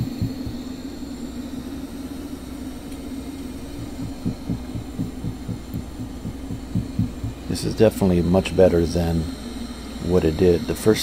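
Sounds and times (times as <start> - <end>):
robot vacuum humming: 0.0 - 11.0
soft low pulses: 0.0 - 11.0.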